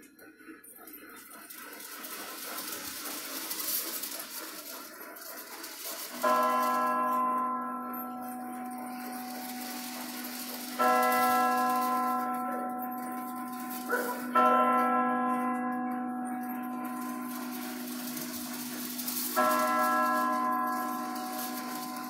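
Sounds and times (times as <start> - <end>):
bell ringing: 1.2 - 22.0.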